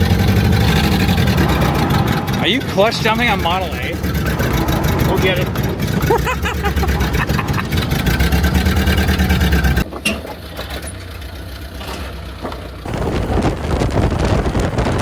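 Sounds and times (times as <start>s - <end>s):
car engine running: 0.0s - 15.0s
vehicle noise: 0.0s - 15.0s.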